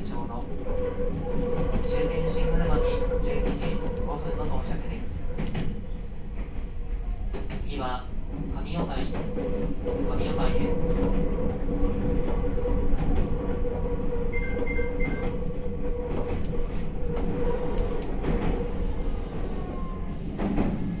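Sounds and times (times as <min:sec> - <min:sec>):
rail joint clicks: 0:00.0 - 0:21.0
train wheels rumbling on rail: 0:00.0 - 0:21.0.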